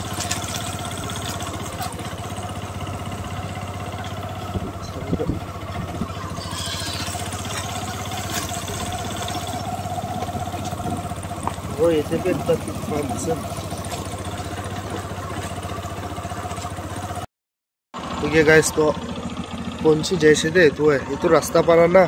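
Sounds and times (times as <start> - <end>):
motorcycle engine running: 0.0 - 17.3, 18.0 - 22.0.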